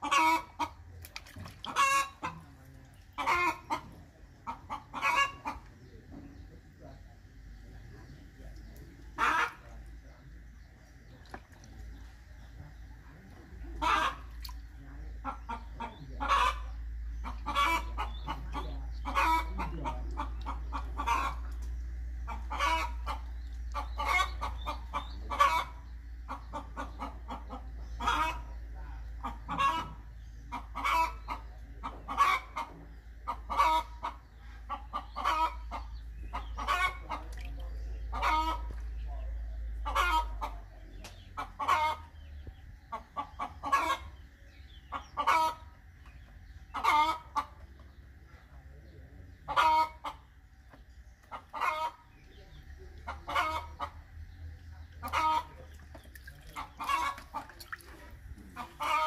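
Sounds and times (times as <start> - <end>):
chickens clucking: 0.0 - 59.0
steady low hum: 0.0 - 59.0.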